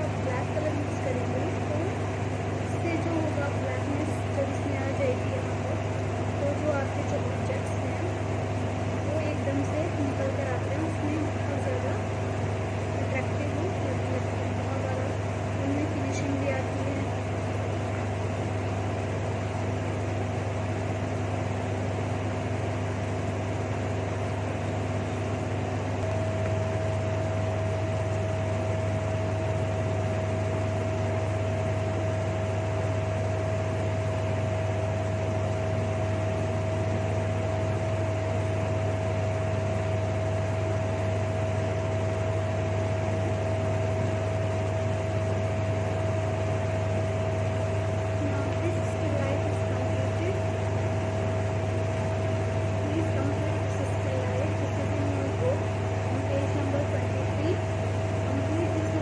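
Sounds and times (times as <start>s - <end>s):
constant whine: 0.0s - 59.0s
machine hum: 0.0s - 59.0s.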